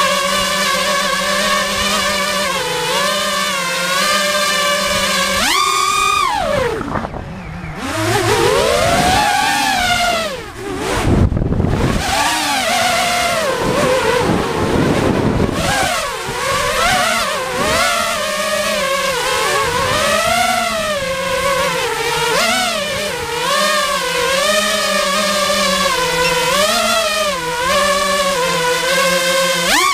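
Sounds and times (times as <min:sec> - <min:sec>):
drone motors whining: 0:00.0 - 0:29.9.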